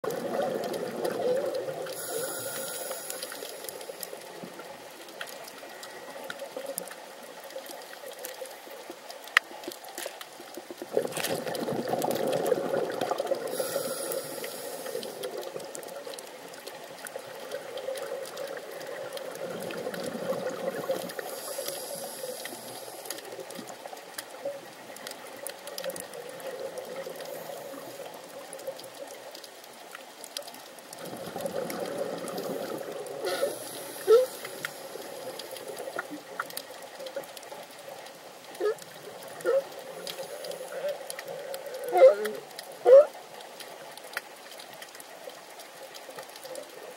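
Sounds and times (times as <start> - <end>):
muffled underwater water wash: 0.0 - 46.9.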